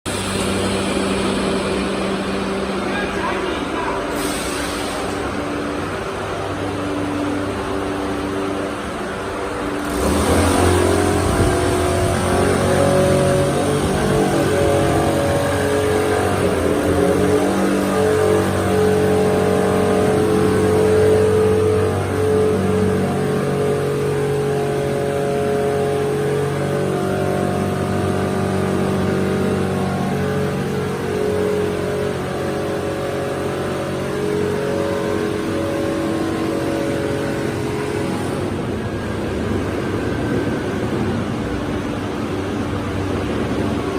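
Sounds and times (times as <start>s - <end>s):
motorcycle engine revving: 0.1s - 4.3s, 5.0s - 43.9s.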